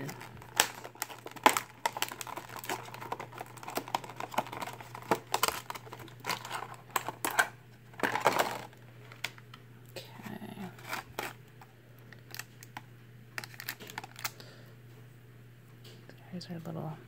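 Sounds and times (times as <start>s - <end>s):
plastic packaging crinkling: 0.0s - 9.6s, 10.2s - 14.5s
faint steady hum: 0.0s - 17.0s.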